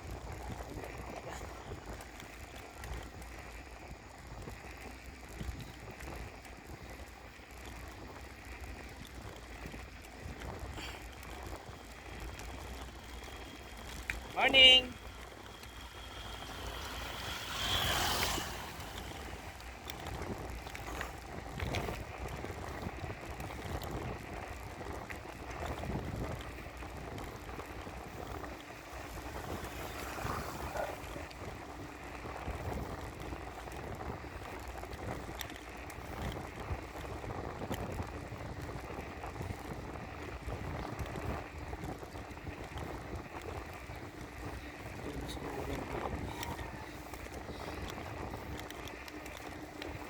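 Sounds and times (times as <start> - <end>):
bicycle tyre noise: 0.0 - 50.0
bike clicks and rattles: 0.0 - 50.0
wind on microphone: 7.9 - 50.0.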